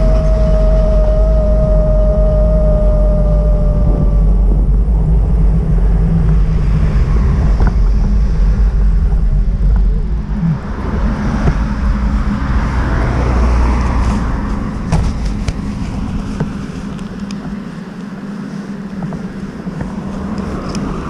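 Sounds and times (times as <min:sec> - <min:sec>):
vehicle rumble: 0:00.0 - 0:21.0.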